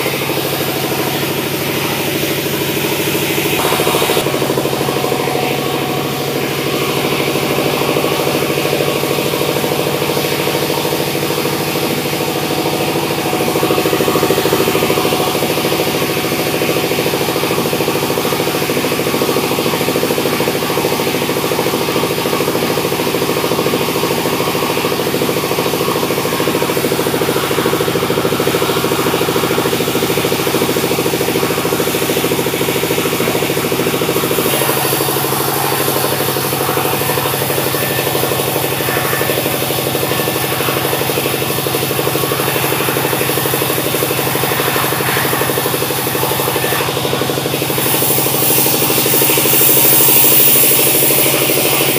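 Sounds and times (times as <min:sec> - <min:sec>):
sawmill machinery drone: 0:00.0 - 0:51.9.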